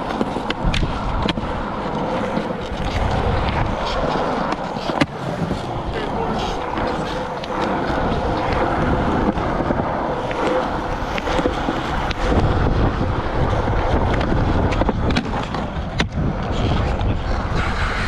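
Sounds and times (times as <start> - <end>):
skateboard clacks: 0.0 - 18.0
skateboard wheels rolling on concrete: 0.0 - 18.0.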